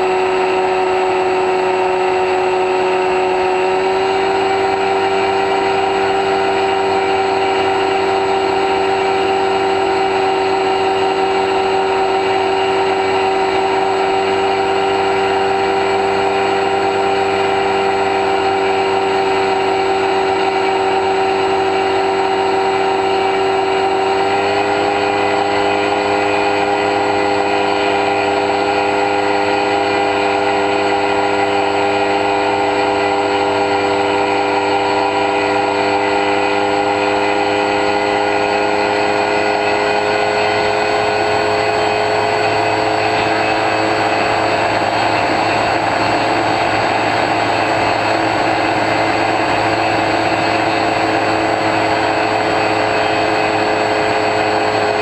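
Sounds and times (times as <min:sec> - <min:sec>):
electric motor propeller whine: 0:00.0 - 0:55.0.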